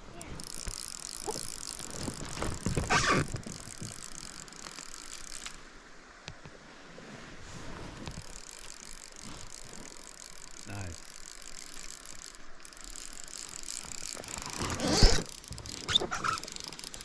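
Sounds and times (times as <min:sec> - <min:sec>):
fishing reel drag ratcheting: 0:00.1 - 0:05.7, 0:08.0 - 0:17.0.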